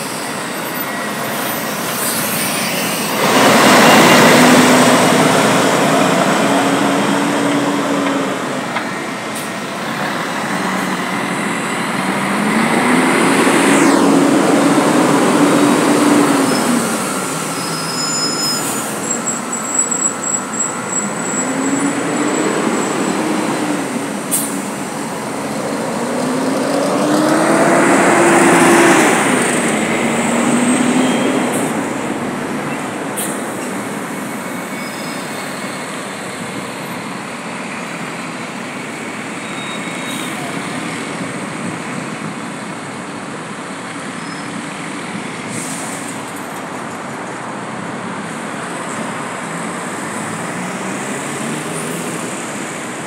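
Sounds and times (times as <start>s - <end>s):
bus driving past: 0.0s - 53.0s
steady road traffic: 0.0s - 53.0s.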